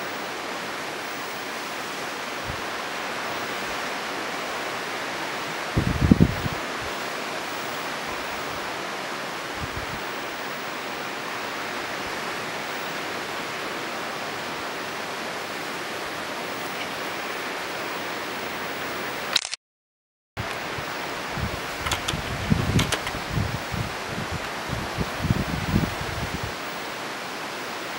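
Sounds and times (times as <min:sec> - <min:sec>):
rushing hiss of outdoor noise: 0:00.0 - 0:19.4, 0:20.4 - 0:27.9.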